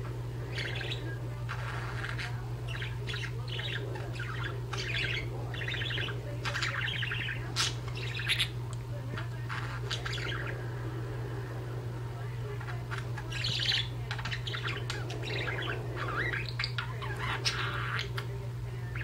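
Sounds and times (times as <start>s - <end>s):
budgerigars chattering: 0.0s - 10.7s, 12.3s - 19.0s
steady low hum: 0.0s - 19.0s.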